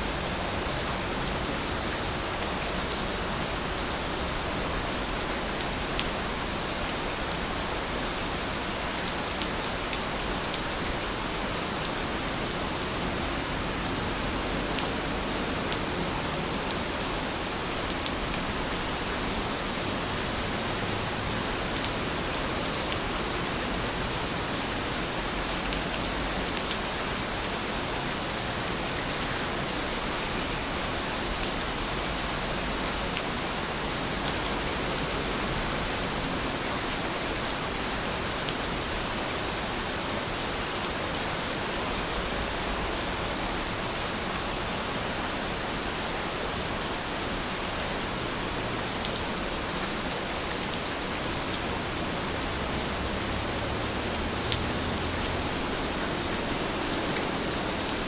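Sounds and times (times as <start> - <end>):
dense rainfall hiss: 0.0 - 58.0.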